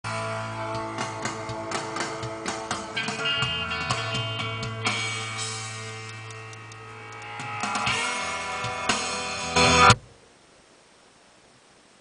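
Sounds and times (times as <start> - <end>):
guitar music on car stereo: 0.1 - 10.1.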